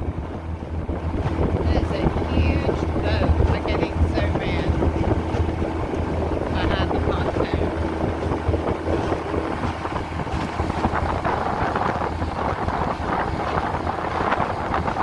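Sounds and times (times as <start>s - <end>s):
boat motor humming: 0.0s - 15.0s
wind noise on microphone: 0.0s - 15.0s.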